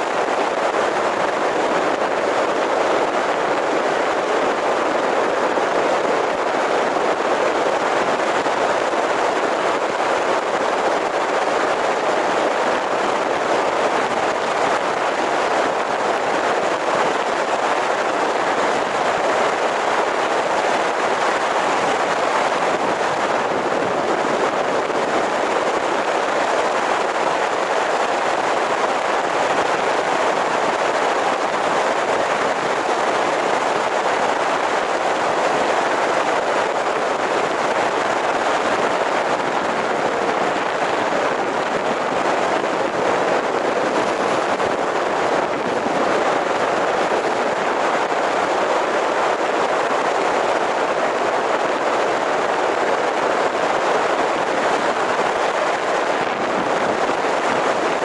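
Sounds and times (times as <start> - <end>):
car tyre and wind noise: 0.0 - 58.0.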